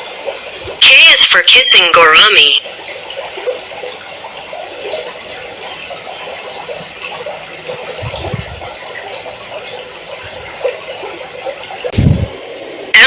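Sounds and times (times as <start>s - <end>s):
aquarium water bubbling: 0.0s - 13.0s.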